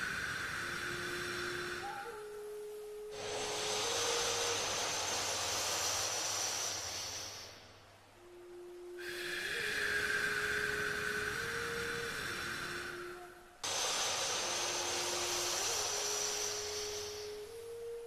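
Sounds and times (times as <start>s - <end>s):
slow breathing through the nose: 0.0s - 8.2s, 9.0s - 18.0s
soft sustained music notes: 0.0s - 18.0s.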